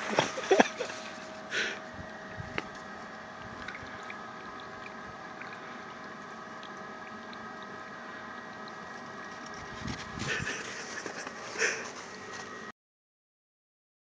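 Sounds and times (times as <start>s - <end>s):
mechanical hum with hiss: 0.0s - 12.7s.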